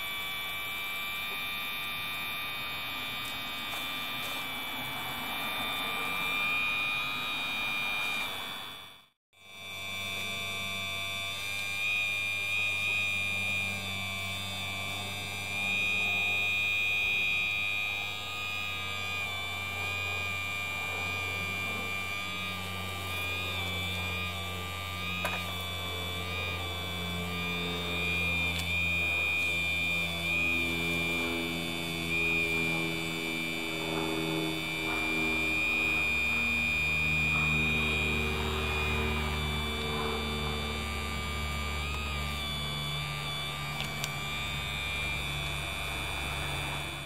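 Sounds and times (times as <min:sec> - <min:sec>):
hydraulic pump electric whine: 0:00.0 - 0:47.0
low droning tone: 0:00.0 - 0:47.0.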